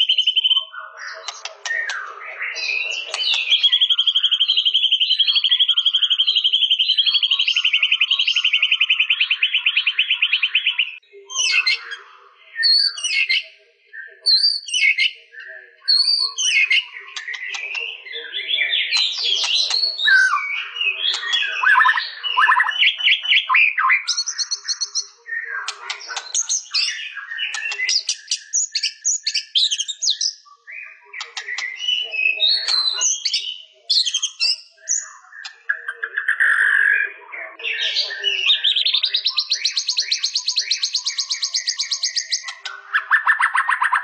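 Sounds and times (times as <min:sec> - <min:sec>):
bird singing whistled phrases: 0:00.0 - 0:12.0, 0:12.6 - 0:13.5, 0:15.9 - 0:44.0
bird trill: 0:00.0 - 0:13.5, 0:15.8 - 0:44.0.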